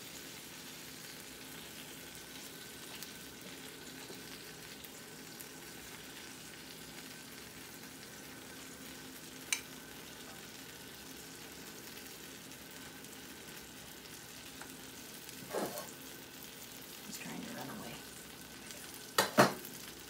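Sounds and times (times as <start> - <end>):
chicken sizzling in oven: 0.0 - 20.0.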